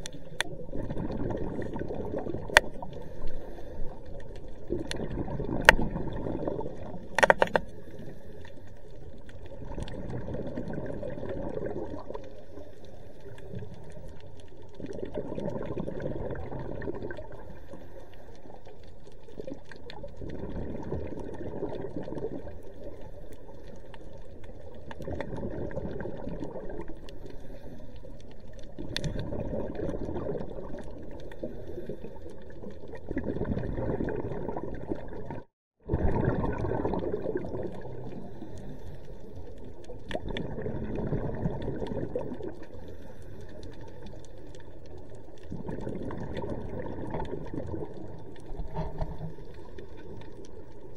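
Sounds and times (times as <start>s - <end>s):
exhaled bubbles rumbling underwater: 0.0s - 50.9s
steady watery rush: 0.0s - 50.9s.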